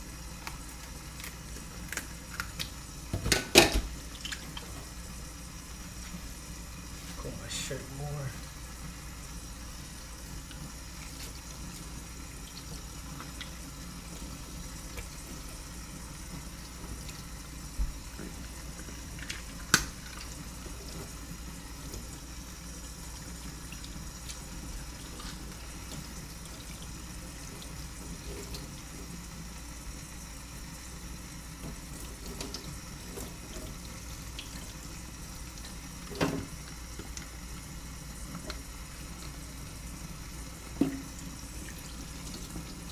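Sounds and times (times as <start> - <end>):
faucet water running into sink: 0.0 - 42.9.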